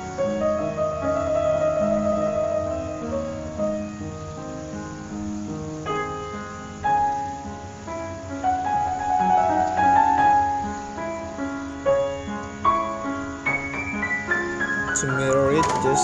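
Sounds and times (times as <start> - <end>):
piano music with chords: 0.0 - 16.0.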